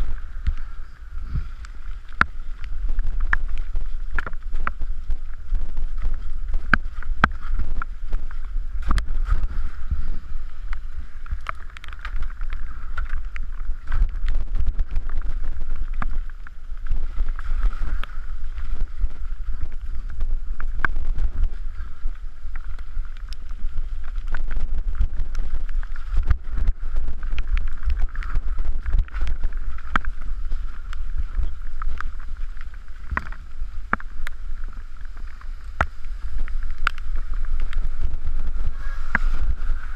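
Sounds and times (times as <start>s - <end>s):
wind rumbling on microphone: 0.0s - 39.9s
bike rattling over rocks: 1.7s - 39.9s.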